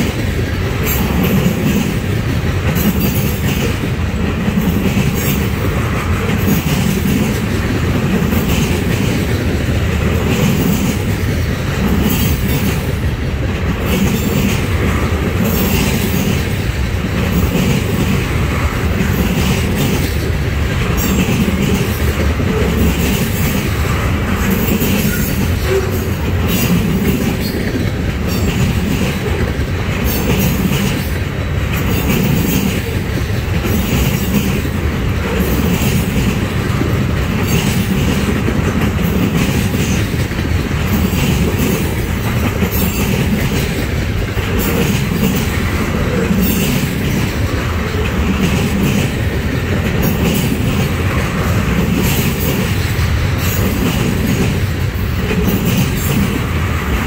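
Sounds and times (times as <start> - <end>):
train wheels rumbling on rail: 0.0 - 57.0
wheels clunking over rail joints: 0.0 - 57.0.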